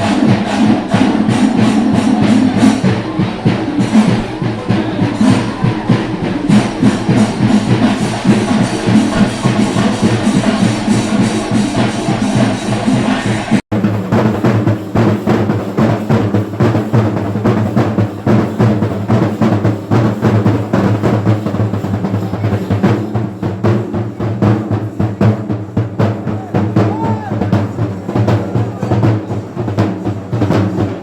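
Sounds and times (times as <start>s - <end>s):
drums beaten in fast rhythm: 0.0s - 31.0s.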